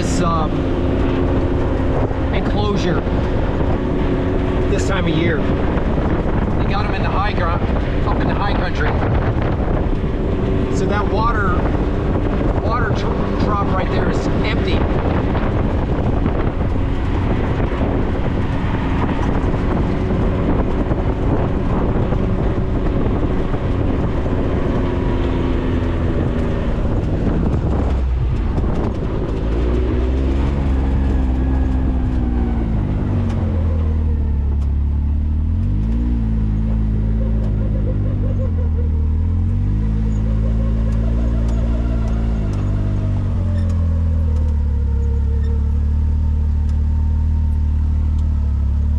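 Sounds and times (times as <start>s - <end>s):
road rumble and rattle: 0.0s - 48.9s
vehicle engine revving: 0.0s - 48.9s.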